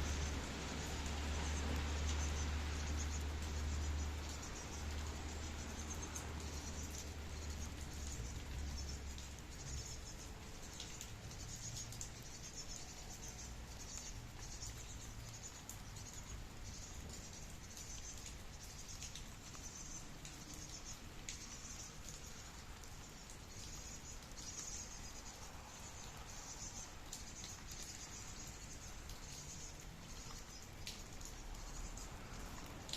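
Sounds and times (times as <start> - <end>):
drips ticking: 0.0 - 32.9
rain falling: 0.0 - 32.9.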